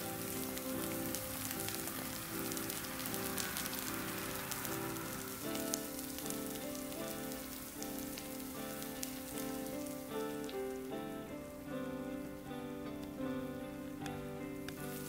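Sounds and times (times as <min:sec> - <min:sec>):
background music: 0:00.0 - 0:15.0
food sizzling and crackling: 0:00.0 - 0:15.0.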